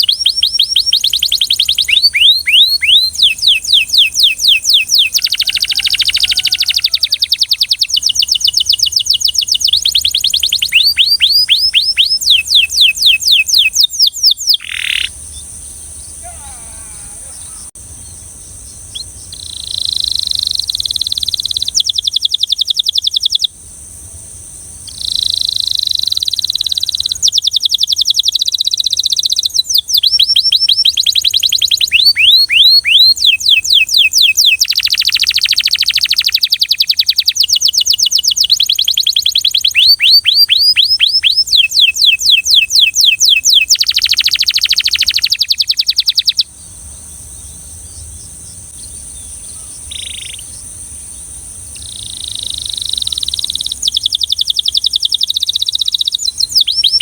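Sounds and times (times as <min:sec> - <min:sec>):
canary singing trills: 0:00.0 - 0:23.6, 0:24.8 - 0:57.0.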